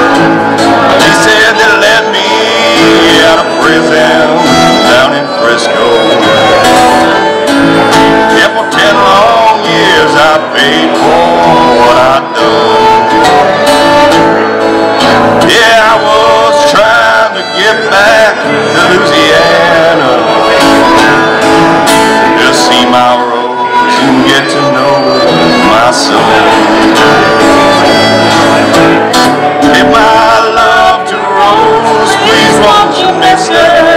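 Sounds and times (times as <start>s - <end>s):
acoustic guitar strummed chords: 0.0s - 33.9s
fiddle melody: 0.0s - 33.9s.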